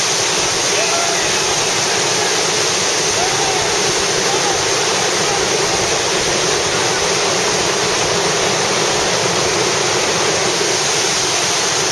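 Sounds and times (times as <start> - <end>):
whitewater rapid rushing: 0.0 - 11.9.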